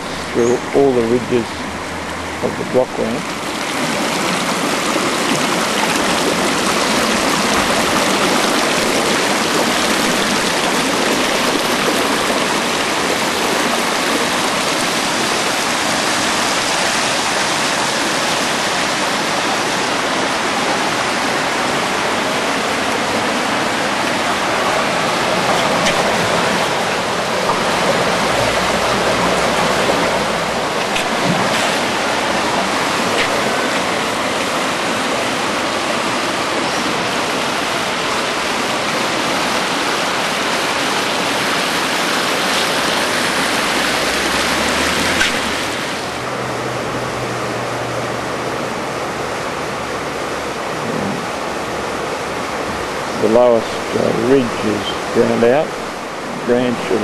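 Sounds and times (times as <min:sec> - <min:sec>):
water rushing over concrete: 0:00.0 - 0:57.0.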